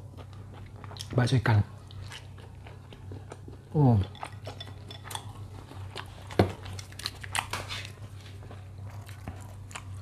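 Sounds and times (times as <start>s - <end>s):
chewing noodles: 0.0s - 10.0s
low steady hum: 0.0s - 10.0s.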